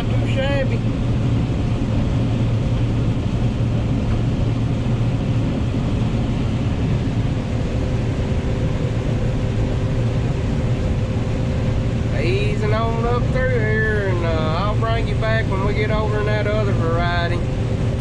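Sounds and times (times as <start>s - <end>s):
combine harvester engine drone: 0.0s - 18.0s
faint steady hum: 0.0s - 18.0s.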